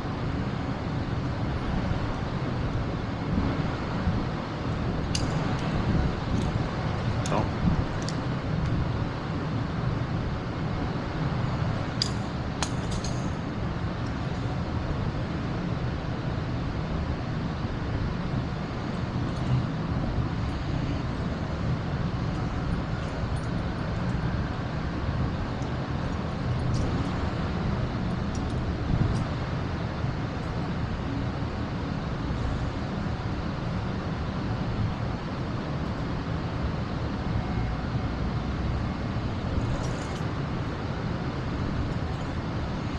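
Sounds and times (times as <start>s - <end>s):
vehicle engines rumbling: 0.0s - 42.9s.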